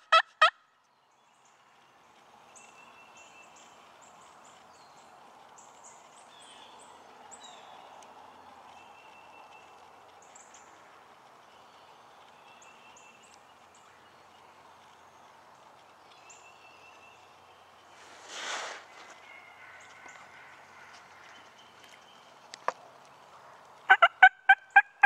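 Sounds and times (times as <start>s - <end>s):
soft steady hiss: 0.7s - 24.0s
songbirds chirping: 0.7s - 25.0s.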